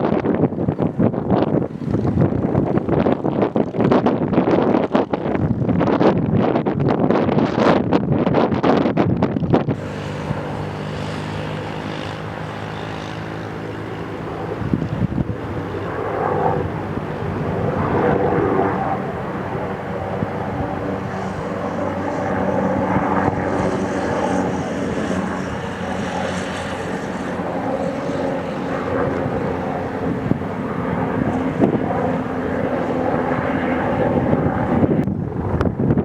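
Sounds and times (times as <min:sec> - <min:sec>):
helicopter running: 0:00.0 - 0:36.0.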